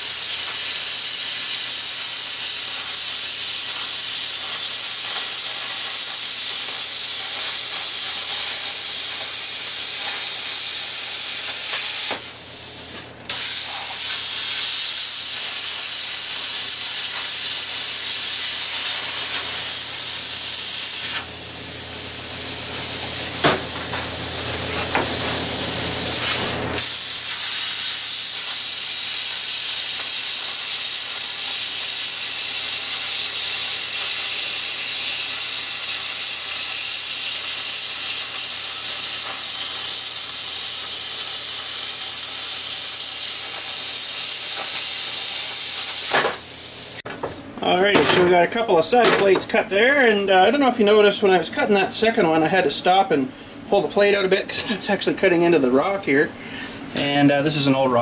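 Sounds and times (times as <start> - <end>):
plasma cutter hissing: 0.0 - 47.0.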